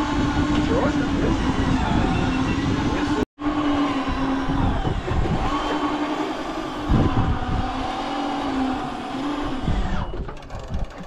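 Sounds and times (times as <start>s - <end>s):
motor humming: 0.0s - 11.0s
wind rumbling on microphone: 0.0s - 11.0s.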